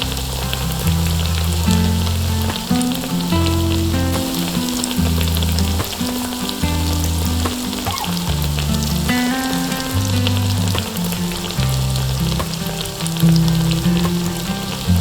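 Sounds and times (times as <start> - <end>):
oil sizzling and crackling: 0.0 - 15.0.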